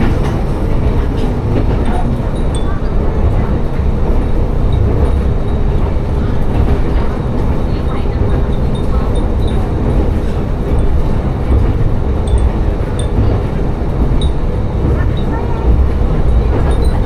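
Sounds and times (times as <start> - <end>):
railcar engine and wheels rumbling: 0.0 - 17.0.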